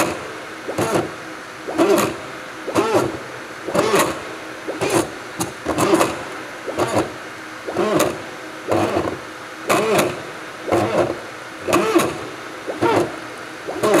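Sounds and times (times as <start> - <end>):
motor whine: 0.0 - 14.0.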